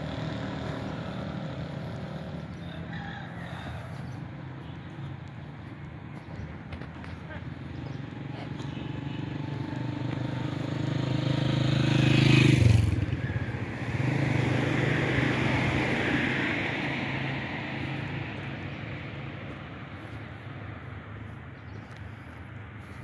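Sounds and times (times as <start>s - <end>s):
motorcycle passing by: 0.0s - 23.0s
vehicle tyre noise: 0.0s - 23.0s.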